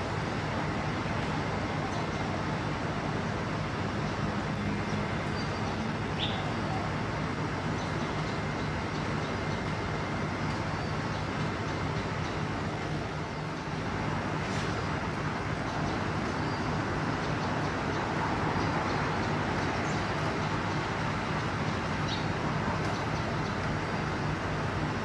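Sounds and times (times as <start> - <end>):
road traffic rumble and hiss: 0.0 - 25.0.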